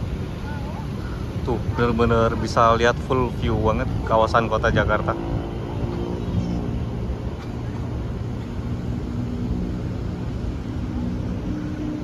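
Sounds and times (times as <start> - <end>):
city traffic rumble: 0.0 - 12.0
faint engine hums: 0.0 - 12.0.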